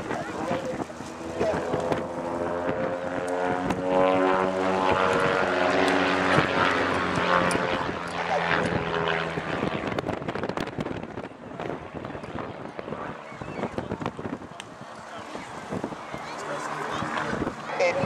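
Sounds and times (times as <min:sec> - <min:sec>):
propeller aircraft flying past: 0:00.0 - 0:18.0.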